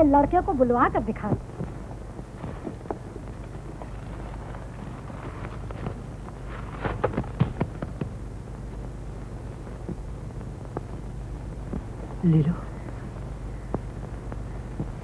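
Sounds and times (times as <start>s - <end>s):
film soundtrack hum and hiss: 0.0s - 15.0s.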